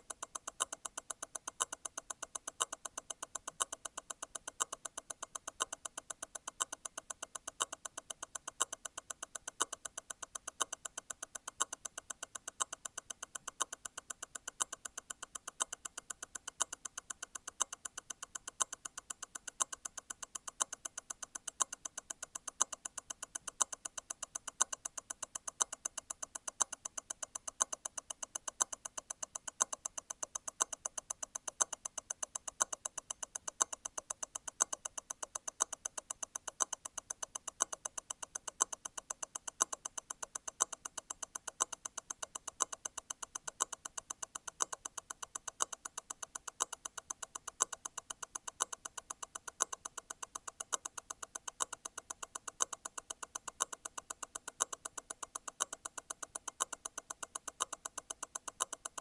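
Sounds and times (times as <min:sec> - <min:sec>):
louder watch tick: 0:00.0 - 0:59.0
watch movement ticking: 0:00.0 - 0:59.0.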